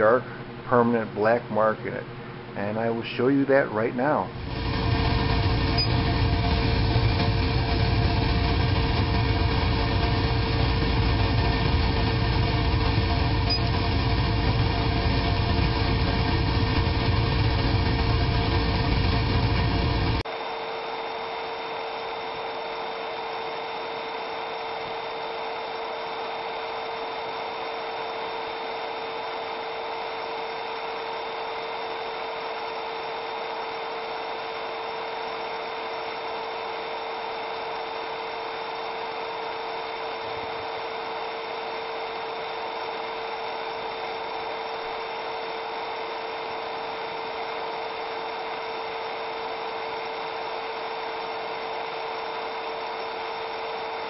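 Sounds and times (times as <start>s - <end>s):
laser engraver humming: 4.1s - 54.0s.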